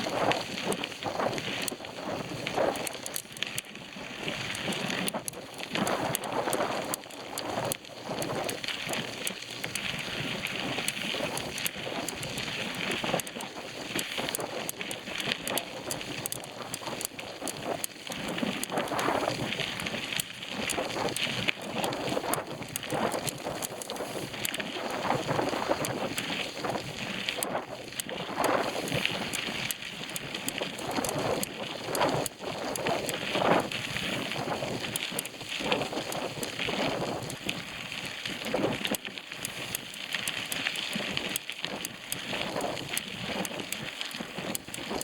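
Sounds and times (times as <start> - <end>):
bicycle tyre noise: 0.0 - 45.0
small clicks and rattles: 0.0 - 45.0.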